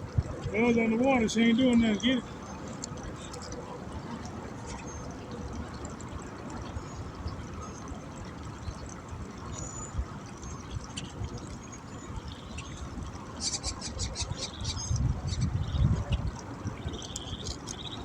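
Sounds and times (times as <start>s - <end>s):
water trickling and lapping: 0.0s - 18.0s.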